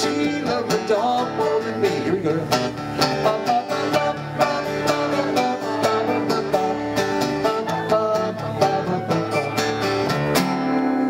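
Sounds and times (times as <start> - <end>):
acoustic country band playing: 0.0 - 11.0.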